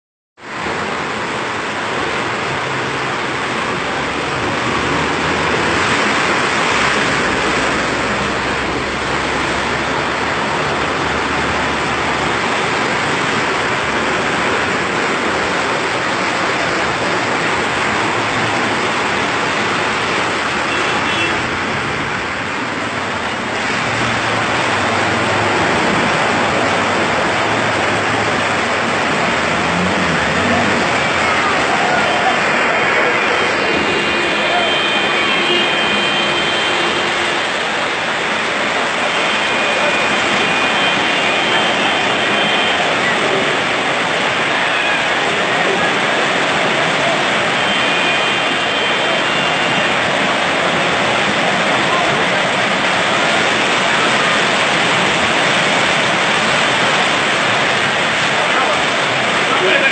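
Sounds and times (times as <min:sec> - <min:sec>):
floodwater rushing: 0:00.4 - 0:59.9.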